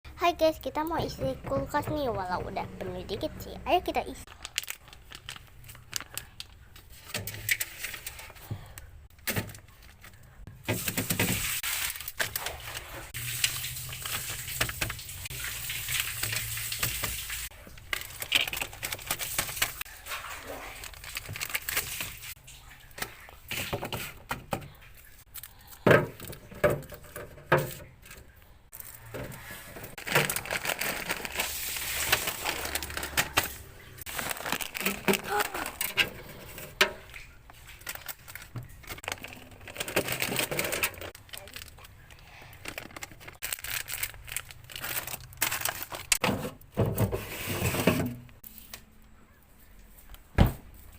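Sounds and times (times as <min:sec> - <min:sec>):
groceries knocking and clattering: 0:00.3 - 0:48.4
plastic bags rustling: 0:00.4 - 0:48.7.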